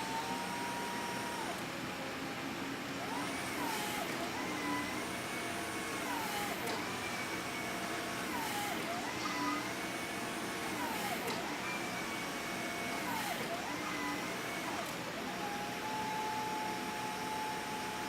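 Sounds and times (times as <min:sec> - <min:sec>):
electric truck motor whine: 0:00.0 - 0:18.0.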